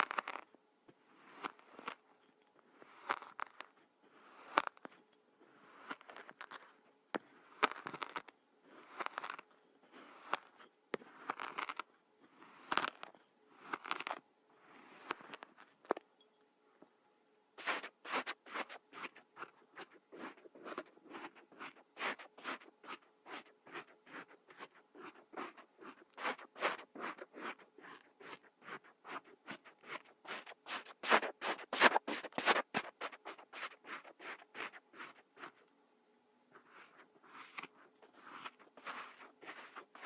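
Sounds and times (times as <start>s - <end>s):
sand being scraped: 0.0s - 0.4s, 1.1s - 2.0s, 2.7s - 15.7s, 17.6s - 35.6s, 36.6s - 40.0s.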